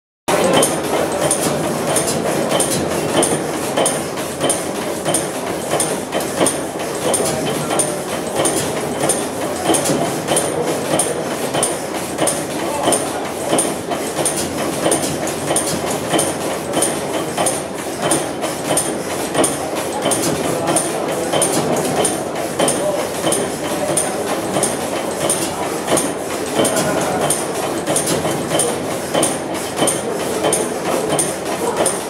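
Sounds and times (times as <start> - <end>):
stationary gas engine running: 0.3 - 32.0.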